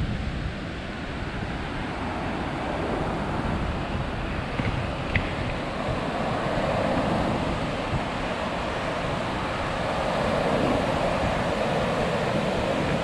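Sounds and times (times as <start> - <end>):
ocean surf breaking on beach: 0.0 - 13.0
wind buffeting microphone: 0.0 - 13.0.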